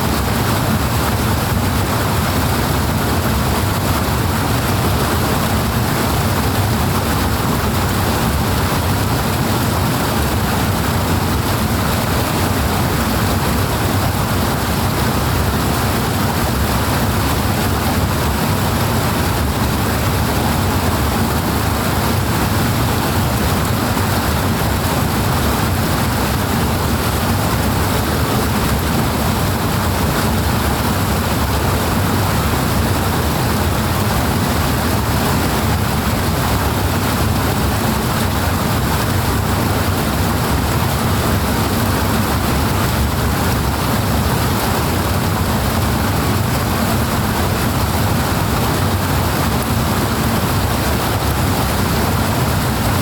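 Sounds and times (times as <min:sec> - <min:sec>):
powerful flowing water: 0:00.0 - 0:53.0.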